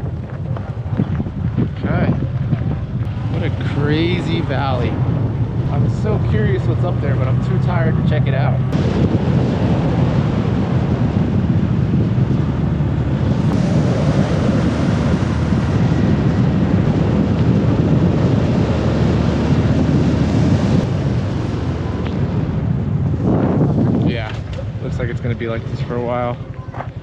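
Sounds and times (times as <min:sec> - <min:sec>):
motorbike engine running: 0:00.0 - 0:27.0
road noise: 0:00.0 - 0:27.0
wind rushing over microphone: 0:00.0 - 0:27.0.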